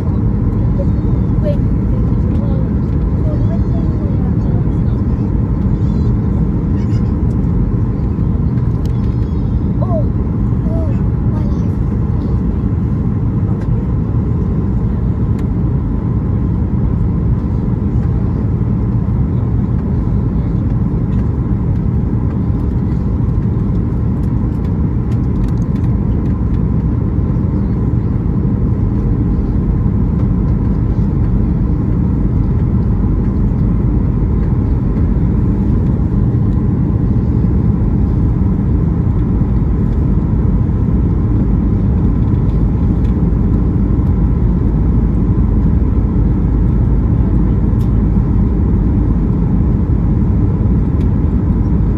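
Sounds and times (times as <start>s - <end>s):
jet engine noise in cabin: 0.0s - 51.9s.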